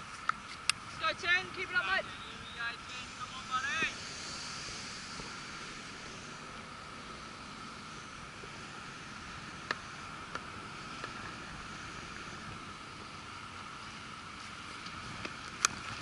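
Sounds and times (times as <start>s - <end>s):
faint high-pitched hum: 0.0s - 16.0s
open-air hiss: 0.0s - 16.0s.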